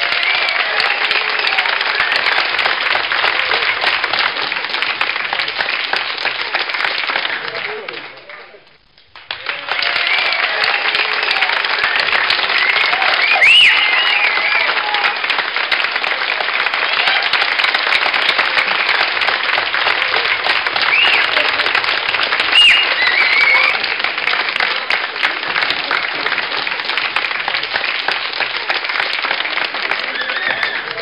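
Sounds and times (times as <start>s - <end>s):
crowd applauding: 0.0s - 31.0s.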